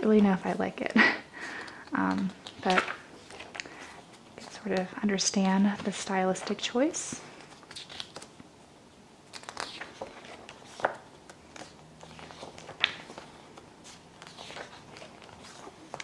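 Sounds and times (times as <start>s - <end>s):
paper pages turning: 1.5s - 6.7s, 7.3s - 8.4s, 9.3s - 16.0s.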